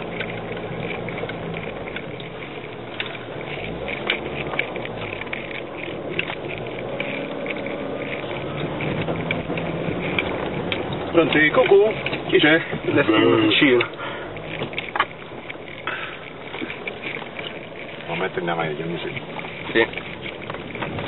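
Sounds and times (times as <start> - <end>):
knocks and rattles from bumps: 0.0 - 21.0
suv engine running: 0.0 - 21.0.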